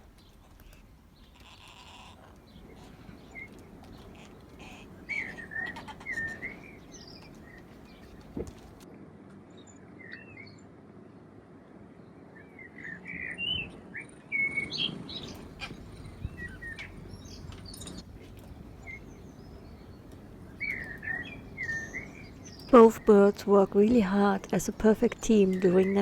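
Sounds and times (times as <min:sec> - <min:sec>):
birds chirping: 0:00.0 - 0:08.8, 0:12.3 - 0:26.0
faint background noise: 0:00.0 - 0:26.0.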